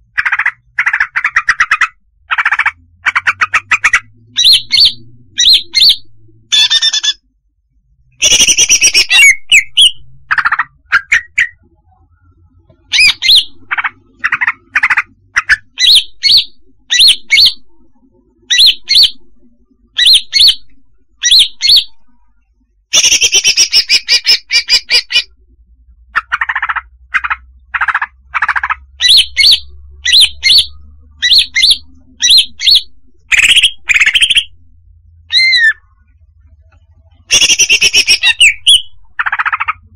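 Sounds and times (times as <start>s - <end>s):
bird chattering: 0.0s - 7.2s, 8.2s - 11.6s, 12.8s - 17.6s, 18.5s - 19.2s, 20.0s - 22.0s, 22.9s - 25.3s, 26.2s - 34.5s, 35.3s - 35.8s, 37.2s - 39.9s
bird chirping: 0.0s - 7.3s, 8.1s - 22.2s, 22.9s - 25.4s, 26.0s - 39.9s.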